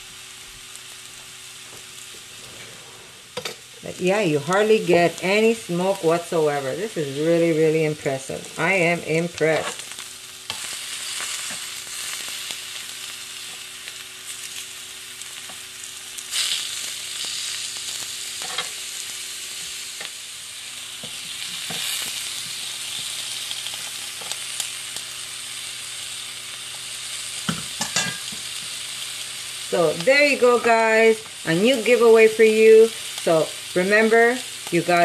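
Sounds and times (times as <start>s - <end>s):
vegetables sizzling on a grill: 0.0s - 35.0s.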